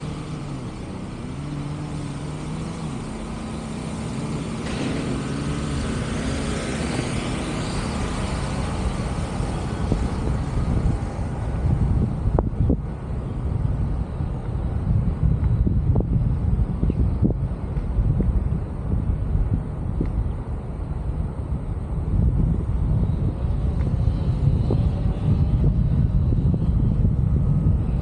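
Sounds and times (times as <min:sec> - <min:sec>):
road and wind noise: 0:00.0 - 0:28.0
vehicle engine running: 0:00.0 - 0:28.0.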